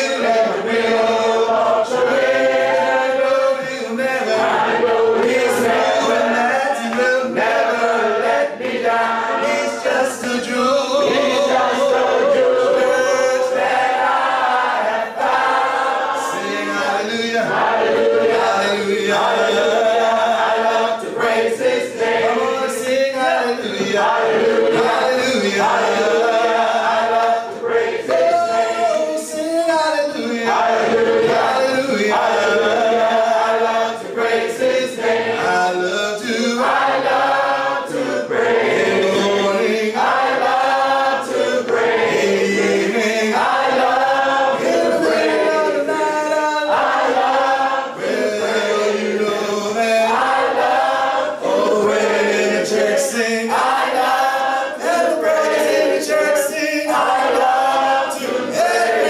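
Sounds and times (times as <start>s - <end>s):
congregation singing a hymn: 0.0s - 59.0s.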